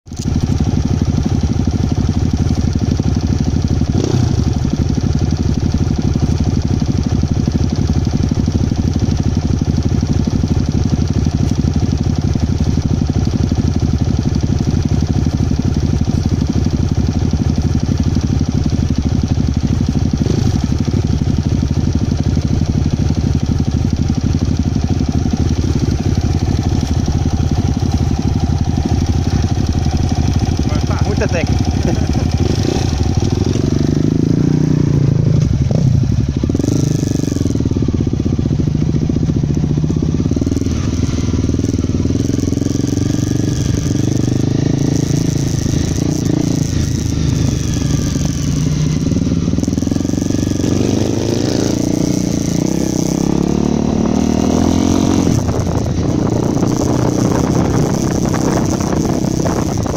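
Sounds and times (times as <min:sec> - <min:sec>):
motorcycle engine idling: 0:00.1 - 0:59.9.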